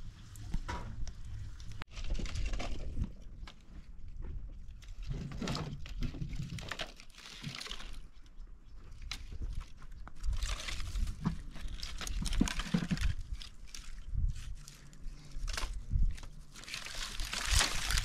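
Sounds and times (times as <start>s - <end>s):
dry branches rattling and snapping: 0.7s - 18.0s.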